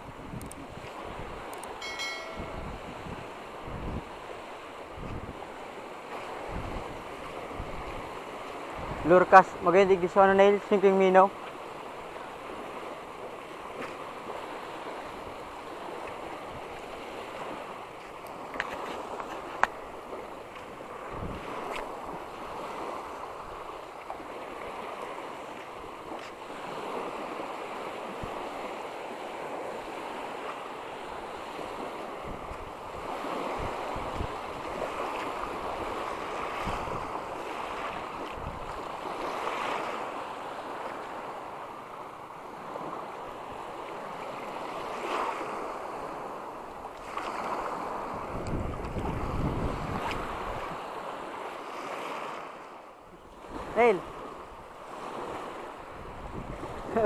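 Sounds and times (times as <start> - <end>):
small waves lapping on shore: 0.0 - 57.0
wind gusts on microphone: 0.0 - 57.0.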